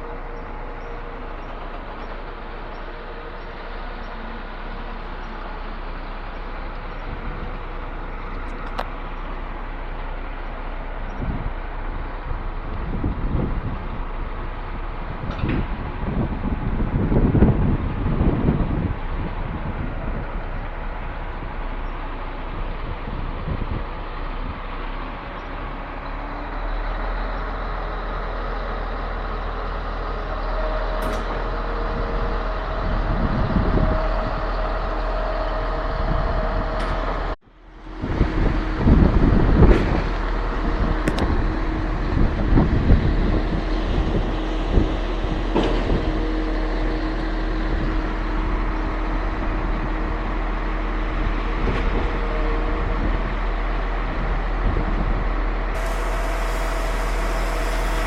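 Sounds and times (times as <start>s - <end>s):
concrete pump running: 0.0s - 58.0s.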